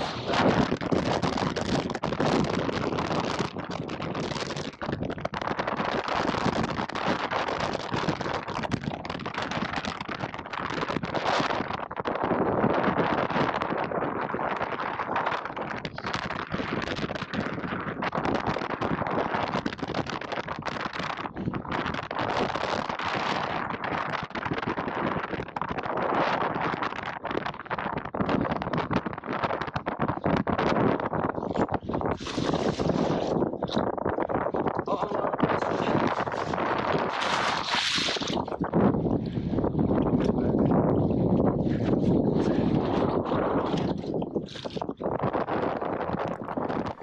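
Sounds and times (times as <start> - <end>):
strong wind buffeting microphone: 0.0 - 47.0.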